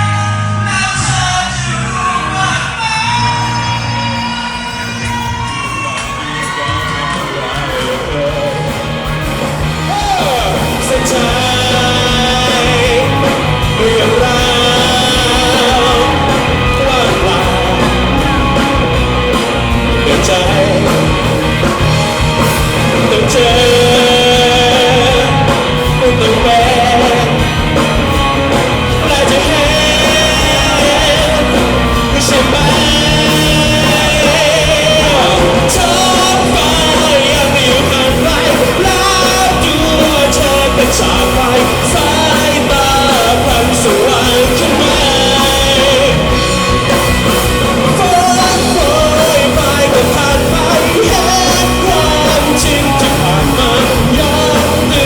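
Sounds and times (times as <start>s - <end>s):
live rock band: 0.0s - 55.0s
man singing: 0.0s - 55.0s.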